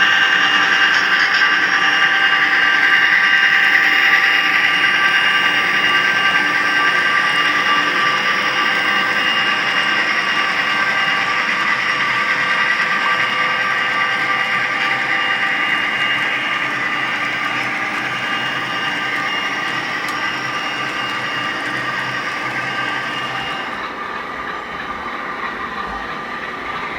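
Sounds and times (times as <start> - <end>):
model locomotive engine sound: 0.0 - 26.9.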